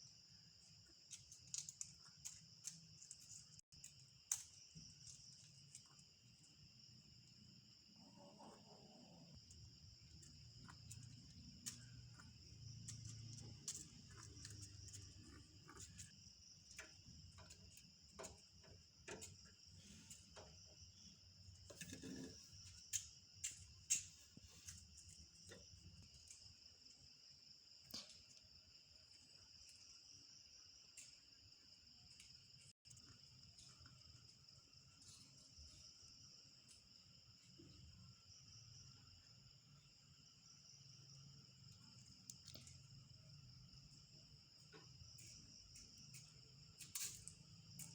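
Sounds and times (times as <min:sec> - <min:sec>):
crickets chirring: 0:00.0 - 0:47.9.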